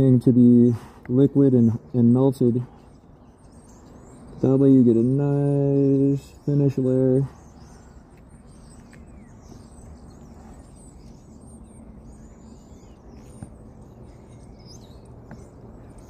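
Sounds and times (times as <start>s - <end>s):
faint bird chirps: 0.0s - 16.0s
steady low hum: 0.0s - 16.0s.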